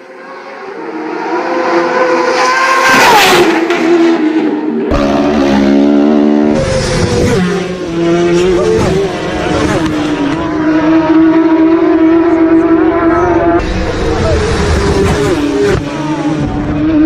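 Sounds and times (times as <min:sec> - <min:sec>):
racing motorcycle passing at high revs: 0:00.0 - 0:17.0.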